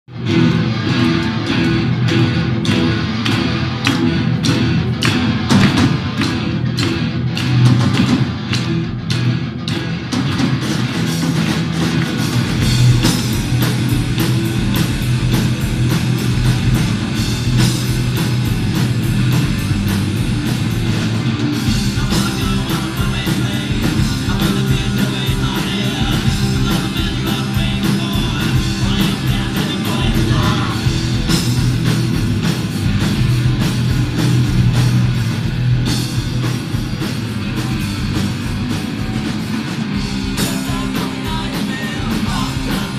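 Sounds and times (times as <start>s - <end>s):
rock band playing live: 0.0s - 42.9s.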